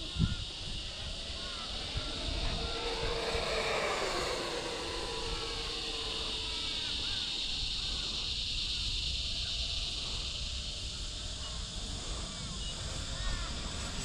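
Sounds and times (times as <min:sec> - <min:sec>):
high-pitched hiss: 0:00.0 - 0:14.0
wind rumbling on microphone: 0:00.0 - 0:14.0.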